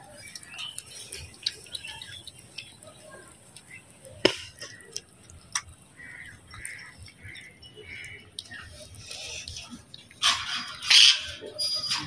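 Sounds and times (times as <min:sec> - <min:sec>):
cats chewing and licking: 0:00.0 - 0:11.4.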